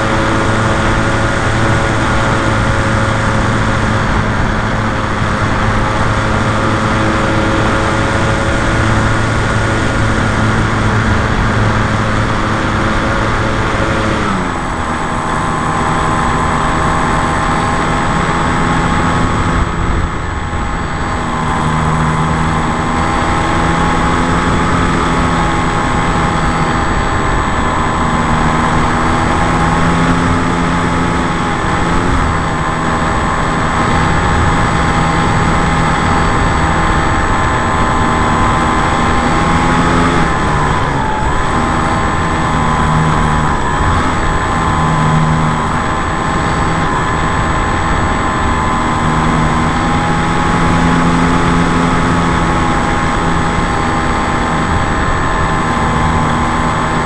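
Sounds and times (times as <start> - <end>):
airflow noise: 0.0 - 57.0
model plane electric motor: 0.0 - 57.0.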